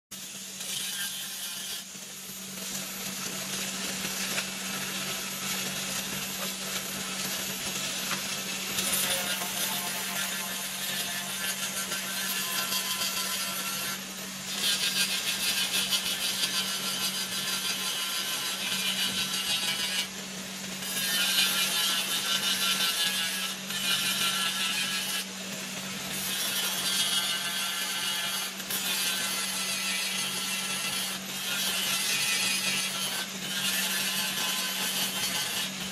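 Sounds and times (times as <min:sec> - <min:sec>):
grinding hiss on steel blade: 0:00.2 - 0:35.9.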